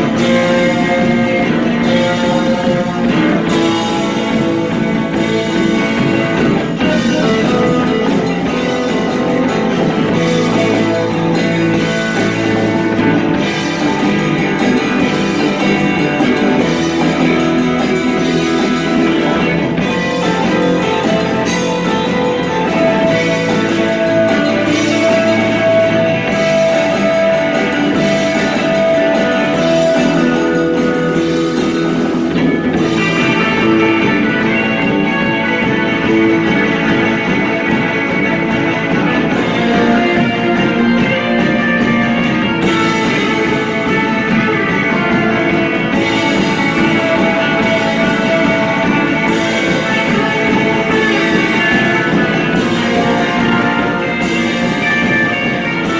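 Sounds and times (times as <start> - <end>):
distorted electric guitars: 0.0 - 55.9
drum kit with cymbals: 0.0 - 55.9.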